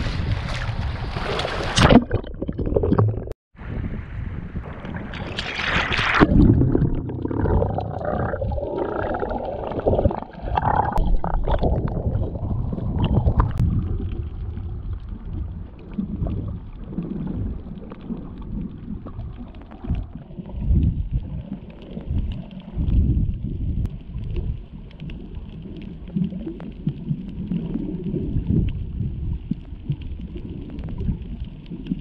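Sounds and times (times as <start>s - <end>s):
underwater rumbling and sloshing: 0.0s - 32.0s.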